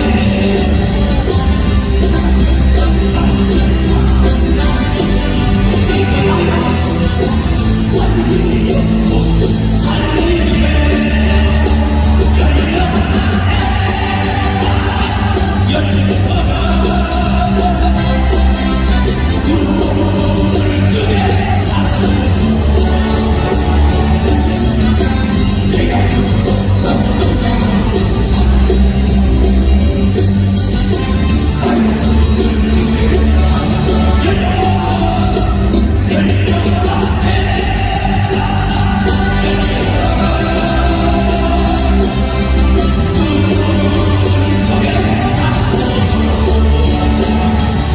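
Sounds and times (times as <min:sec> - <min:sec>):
band playing loud steady beat: 0:00.0 - 0:47.9
voices singing: 0:00.0 - 0:47.9.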